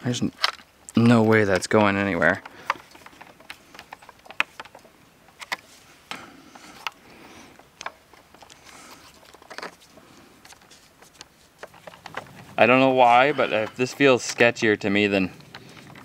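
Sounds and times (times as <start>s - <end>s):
soft rustling: 1.3s - 16.0s.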